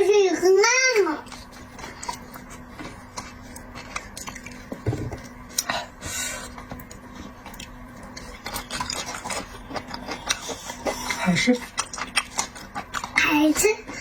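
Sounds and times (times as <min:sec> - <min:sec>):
person chewing: 0:01.2 - 0:14.0.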